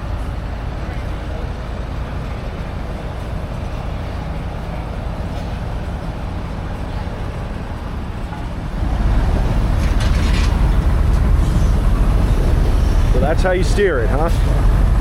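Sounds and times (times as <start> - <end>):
steam engine rumbling: 0.0 - 15.0.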